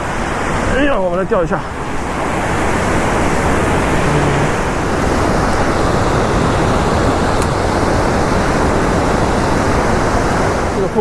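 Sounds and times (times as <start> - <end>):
water rushing over waterfall: 0.0 - 11.0.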